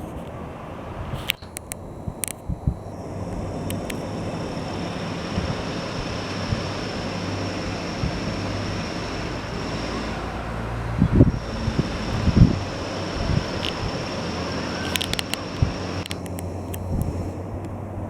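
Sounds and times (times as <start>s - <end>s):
faint low hum: 0.0s - 18.0s
wind buffeting microphone: 0.0s - 18.0s
outdoor rushing noise: 2.6s - 18.0s.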